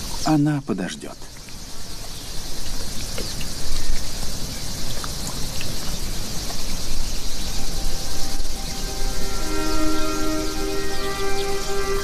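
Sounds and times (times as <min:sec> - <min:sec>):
insects hissing: 0:00.0 - 0:12.0.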